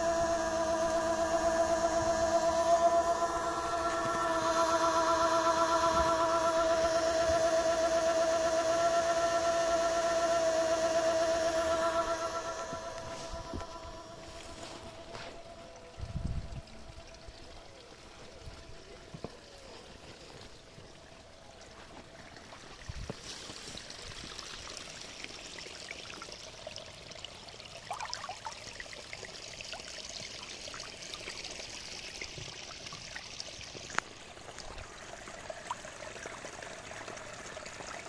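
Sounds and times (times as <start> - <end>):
water trickling over rocks: 0.0 - 38.0.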